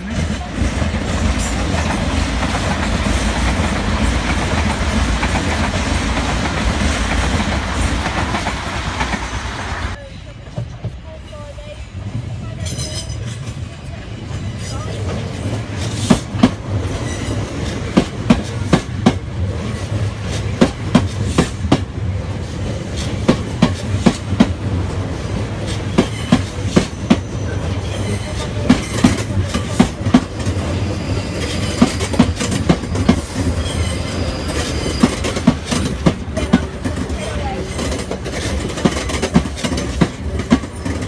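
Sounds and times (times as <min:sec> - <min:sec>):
train rumbling slowly past: 0:00.0 - 0:41.0.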